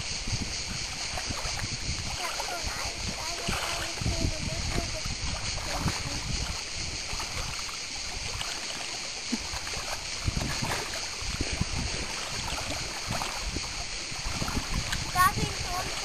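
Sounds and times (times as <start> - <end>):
sea water lapping on rocks: 0.0 - 16.0
dog swimming splashes: 1.0 - 16.0.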